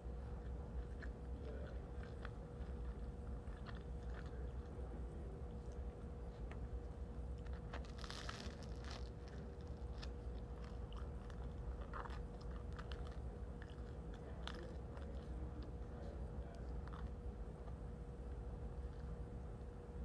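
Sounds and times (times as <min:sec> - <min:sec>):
steady low hum: 0:00.0 - 0:20.0
bread crust crunching: 0:00.1 - 0:19.7
chewing with mouth clicks: 0:00.2 - 0:06.7, 0:07.3 - 0:19.2.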